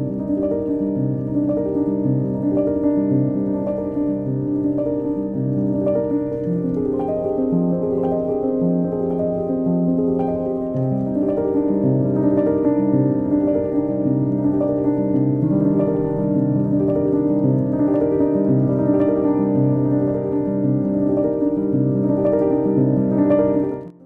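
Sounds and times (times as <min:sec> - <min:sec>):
soft piano piece: 0:00.0 - 0:24.0.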